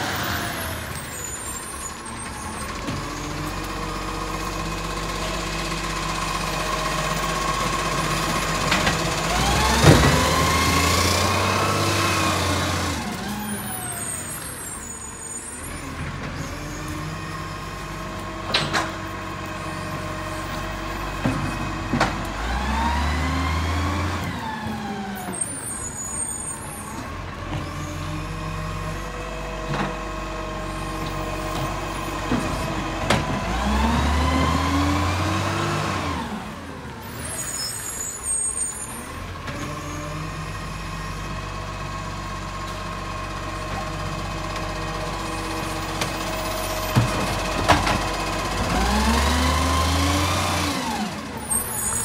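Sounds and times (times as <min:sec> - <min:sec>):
truck diesel engine revving: 0:00.0 - 0:15.0, 0:15.6 - 0:52.0.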